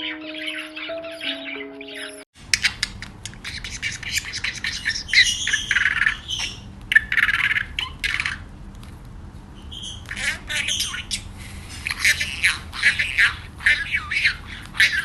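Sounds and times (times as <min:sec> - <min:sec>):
budgerigar chirping and chattering: 0:00.0 - 0:08.5, 0:09.6 - 0:15.0.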